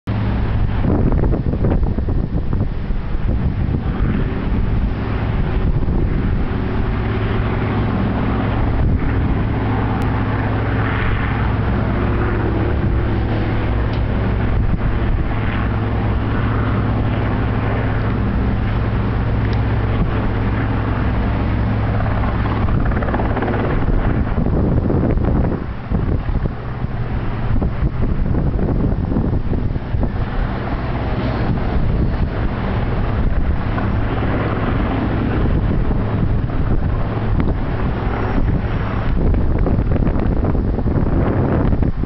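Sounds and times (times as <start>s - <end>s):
helicopter rotor and turbine drone: 0.1s - 42.0s.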